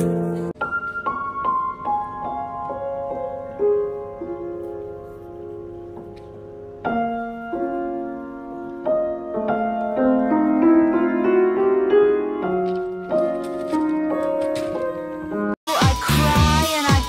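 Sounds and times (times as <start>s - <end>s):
soft piano music: 0.0s - 15.6s.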